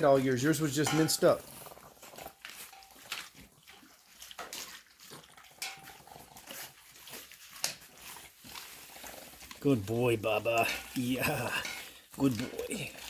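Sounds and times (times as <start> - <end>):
dogs chewing and crunching bones: 0.0 - 13.0.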